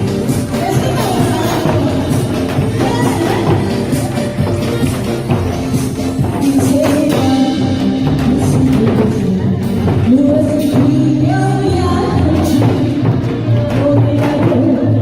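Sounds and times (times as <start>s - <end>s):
musical accompaniment with steady beat: 0.0s - 15.0s.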